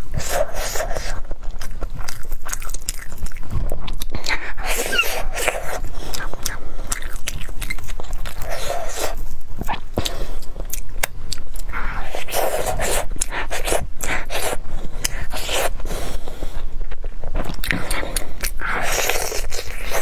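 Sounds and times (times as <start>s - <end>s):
chewing sticky rice cake: 0.0s - 20.0s.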